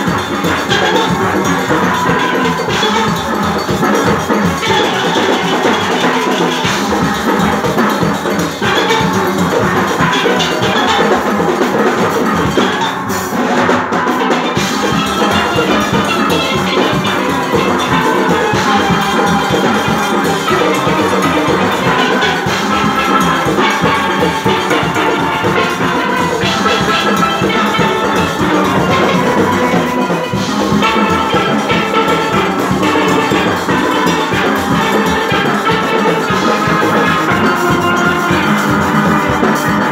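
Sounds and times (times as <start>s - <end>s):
drums and percussion beat: 0.0s - 39.9s
steel band playing: 0.0s - 39.9s.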